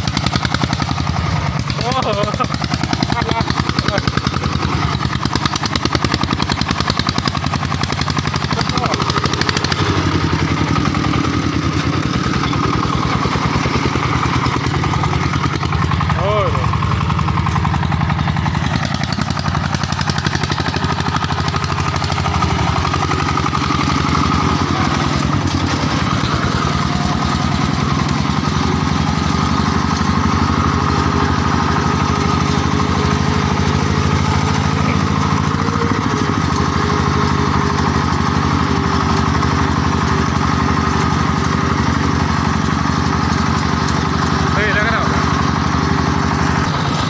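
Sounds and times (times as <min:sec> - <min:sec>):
diesel tractor engine chugging: 0:00.0 - 0:47.0.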